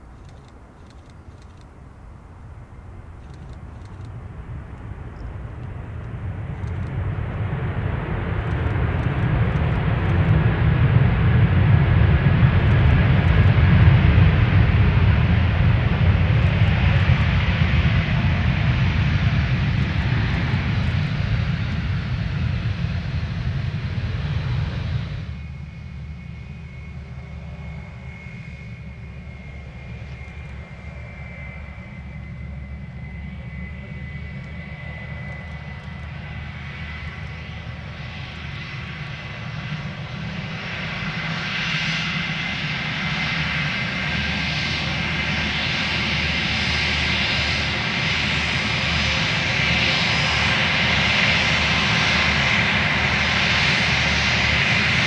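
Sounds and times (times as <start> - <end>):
jet engines rumbling with whine: 0.0 - 55.0.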